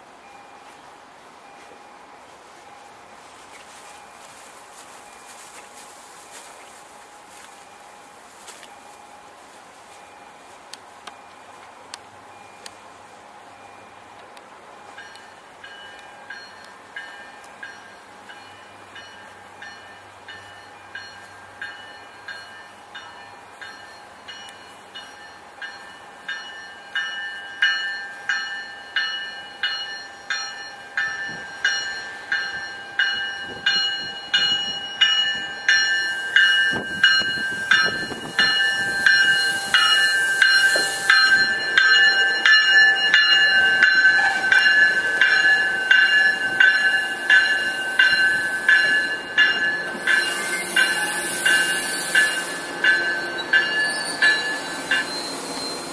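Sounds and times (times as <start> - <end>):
train bell ringing: 0.0 - 55.9
train rumble: 0.0 - 55.9.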